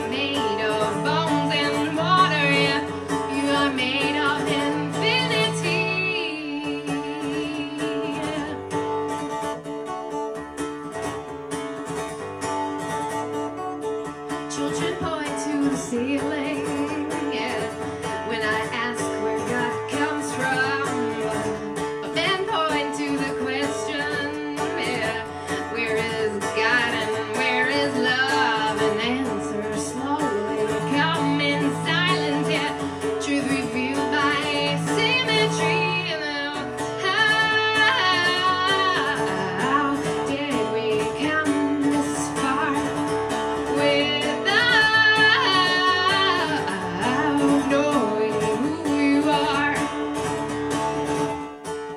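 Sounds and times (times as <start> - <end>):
woman singing: 0.0 - 9.8, 14.2 - 51.9
acoustic guitar playing: 0.0 - 51.9.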